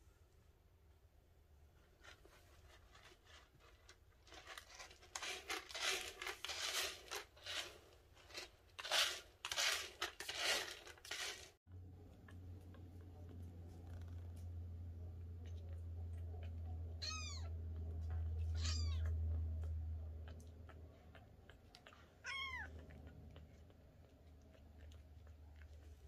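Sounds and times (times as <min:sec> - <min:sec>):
kitten digging in cat litter: 0:01.6 - 0:26.0.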